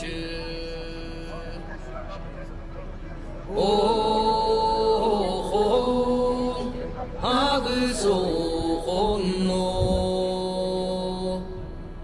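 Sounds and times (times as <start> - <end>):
slow chanted singing: 0.0 - 1.6, 3.5 - 12.0.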